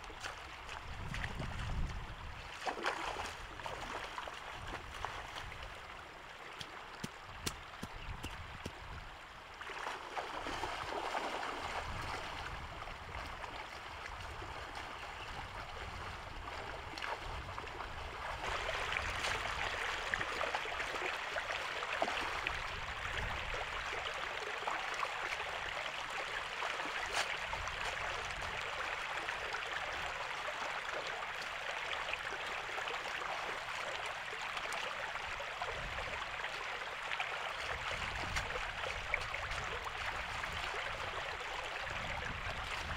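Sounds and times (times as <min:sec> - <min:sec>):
floodwater rushing and gurgling: 0:00.0 - 0:42.9.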